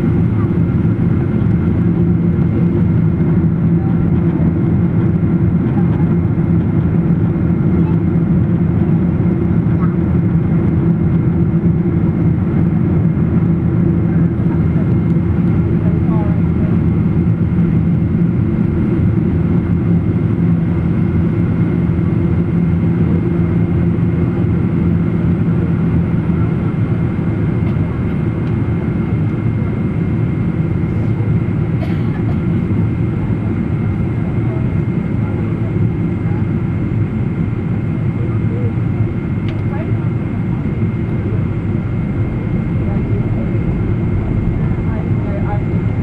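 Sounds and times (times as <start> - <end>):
jet engines droning: 0.0 - 46.0.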